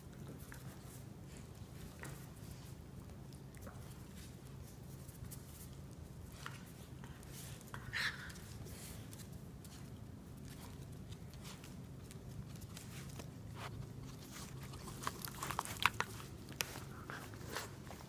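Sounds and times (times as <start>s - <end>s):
dogs scuffling: 0.0s - 18.0s.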